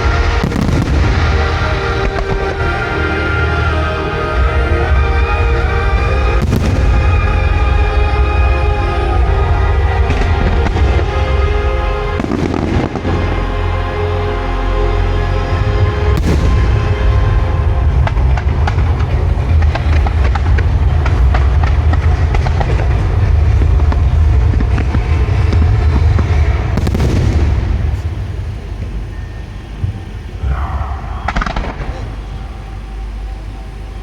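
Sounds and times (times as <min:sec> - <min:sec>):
fireworks crackling and banging: 0:00.0 - 0:13.6, 0:15.5 - 0:29.2, 0:31.3 - 0:32.3
deep continuous rumble: 0:00.0 - 0:34.0.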